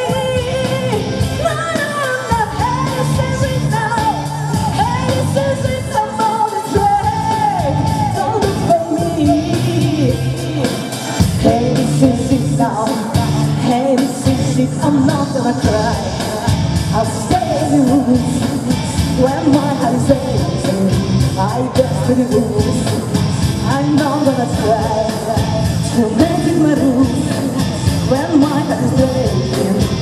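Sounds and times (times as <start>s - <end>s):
loud band backing: 0.0s - 30.0s
woman singing into microphone: 0.0s - 30.0s.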